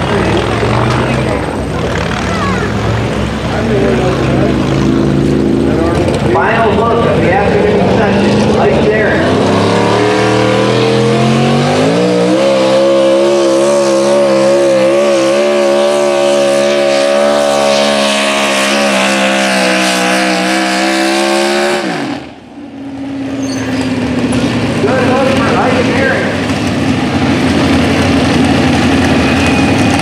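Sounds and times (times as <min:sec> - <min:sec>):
pulling truck engine at full throttle: 0:00.0 - 0:30.0.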